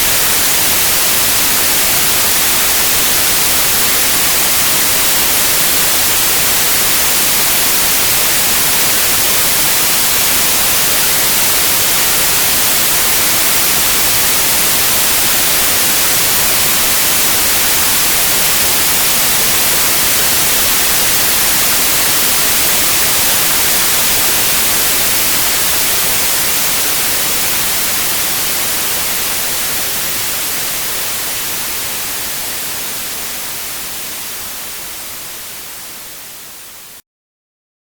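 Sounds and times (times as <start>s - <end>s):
white noise hiss: 0.0s - 37.0s.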